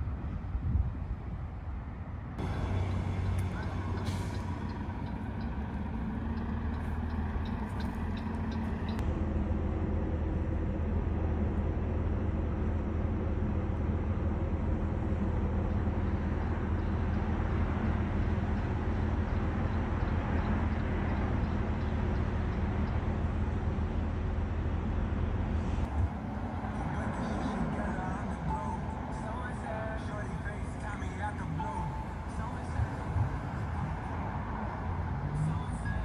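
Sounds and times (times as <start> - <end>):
large engine idling: 2.1 - 36.0.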